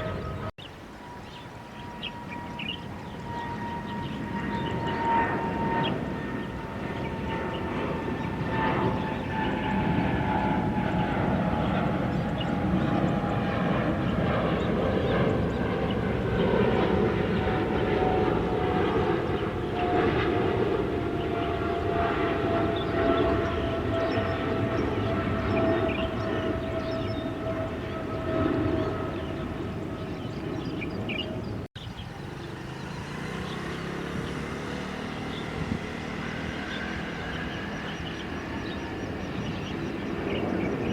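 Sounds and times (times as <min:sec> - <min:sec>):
high jet engine whine: 0:00.0 - 0:40.9
jet engines rumbling: 0:00.0 - 0:40.9.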